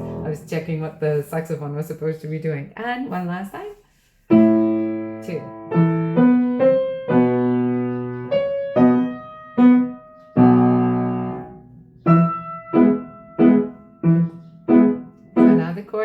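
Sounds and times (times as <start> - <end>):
piano chords: 0.0 - 1.3, 4.3 - 16.0.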